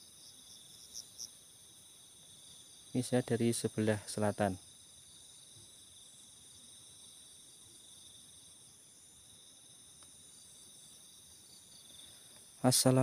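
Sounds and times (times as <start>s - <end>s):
crickets chirping at night: 0.0s - 13.0s.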